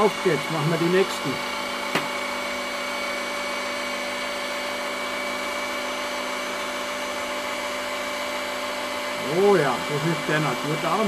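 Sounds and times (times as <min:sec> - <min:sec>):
electric meat grinder running: 0:00.0 - 0:11.0.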